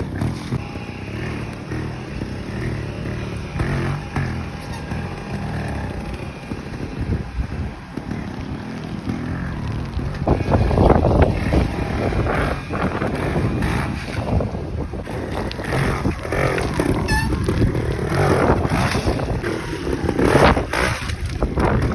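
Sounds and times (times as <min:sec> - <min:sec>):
trials bike engine revving: 0:00.0 - 0:21.9
wind buffeting microphone: 0:00.0 - 0:21.9.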